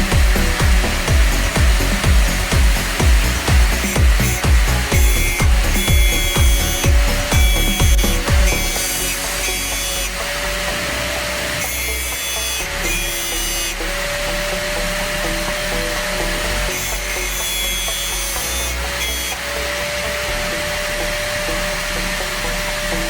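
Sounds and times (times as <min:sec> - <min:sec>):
background music: 0:00.0 - 0:23.0
electric grinding tool whine: 0:00.0 - 0:23.0
hissing grinding of drill bit: 0:00.0 - 0:23.0.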